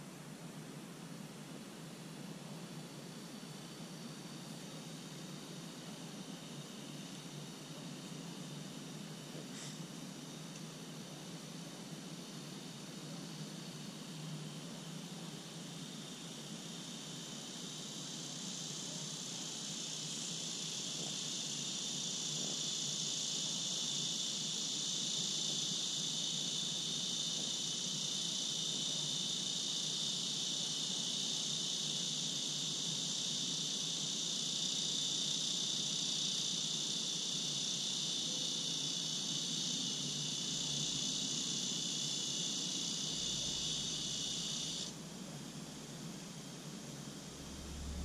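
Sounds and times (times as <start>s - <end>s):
insects droning: 0.0s - 48.0s.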